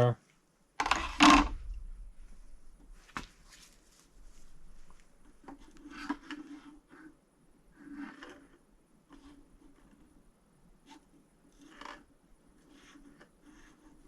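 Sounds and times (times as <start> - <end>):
cable rubbing and scraping: 0.8 - 10.2, 10.8 - 14.0.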